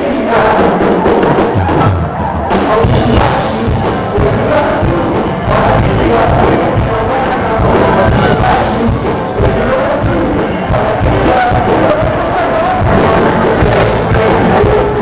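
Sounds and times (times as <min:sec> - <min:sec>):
crowd: 0:00.0 - 0:15.0
loud live band music: 0:00.0 - 0:15.0.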